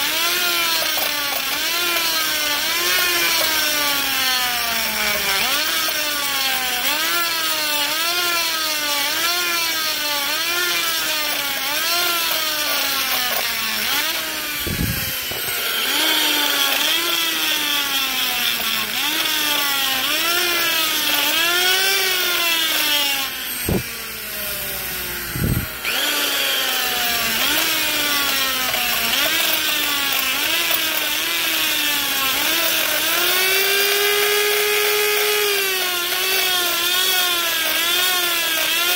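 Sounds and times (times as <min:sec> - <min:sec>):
die grinder whining on metal: 0:00.0 - 0:38.9.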